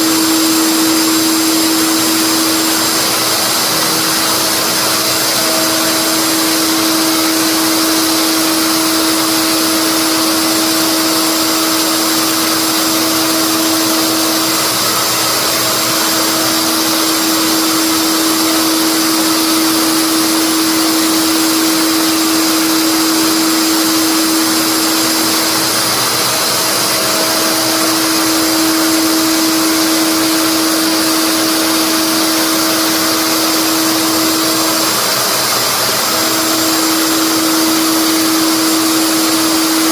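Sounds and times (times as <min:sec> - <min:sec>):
electric router whining: 0:00.0 - 0:39.9.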